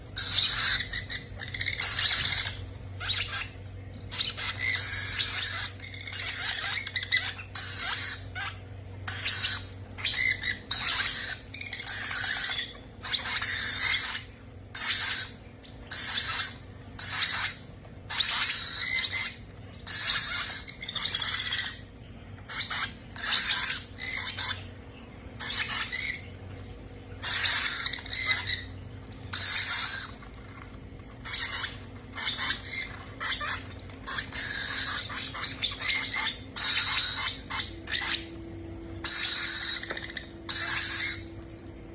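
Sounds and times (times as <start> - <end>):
baby parrots squawking: 0.0 - 24.8, 25.4 - 41.5.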